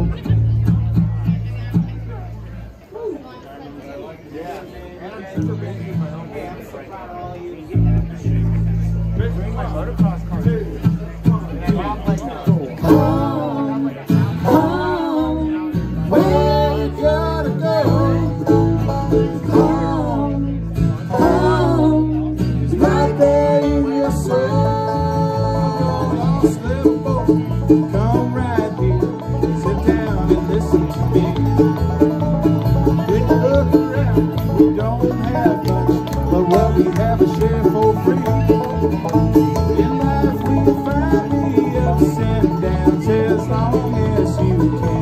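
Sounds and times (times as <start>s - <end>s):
live bluegrass band: 0.0s - 45.0s
banjo picking quick runs: 7.8s - 45.0s.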